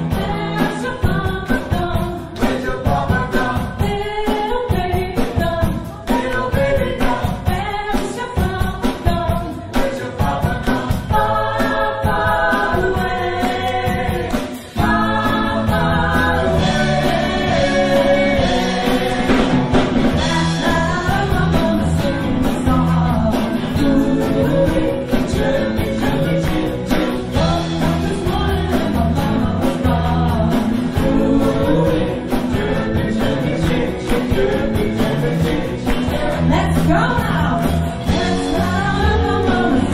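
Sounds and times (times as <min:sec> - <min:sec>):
live pop-rock band playing: 0:00.0 - 0:39.9
women singing: 0:00.0 - 0:39.9.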